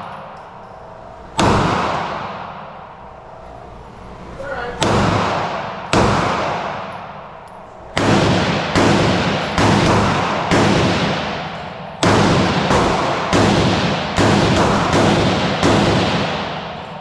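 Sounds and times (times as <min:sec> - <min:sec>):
pistol shots with echo: 0:01.3 - 0:03.1, 0:04.8 - 0:17.0.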